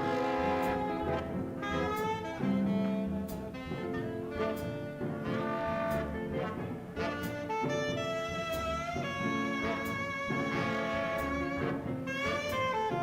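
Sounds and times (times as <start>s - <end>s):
drums: 0.0s - 13.0s
swing jazz horn section: 0.0s - 13.0s
upright bass: 0.0s - 13.0s.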